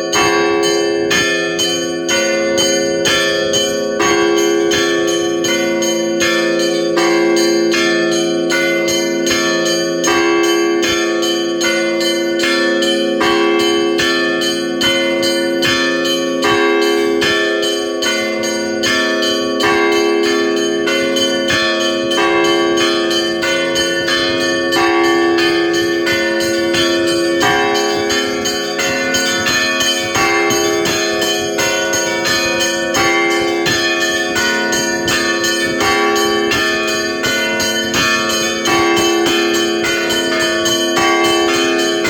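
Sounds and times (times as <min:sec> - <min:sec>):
church bells pealing: 0:00.0 - 0:42.0.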